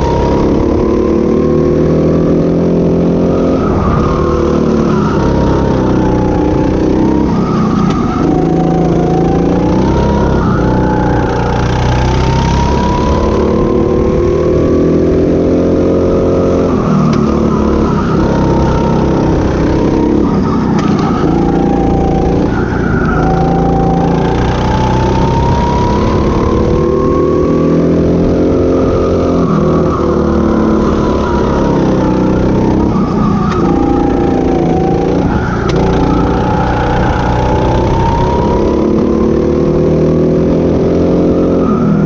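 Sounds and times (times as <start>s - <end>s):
go-kart engine accelerating: 0.0s - 42.0s.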